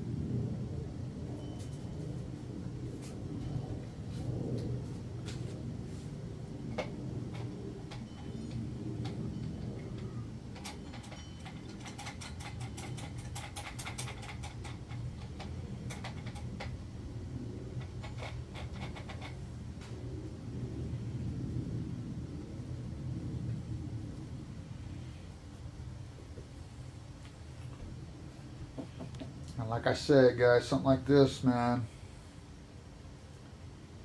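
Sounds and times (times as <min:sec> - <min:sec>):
low background hum: 0:00.0 - 0:34.0.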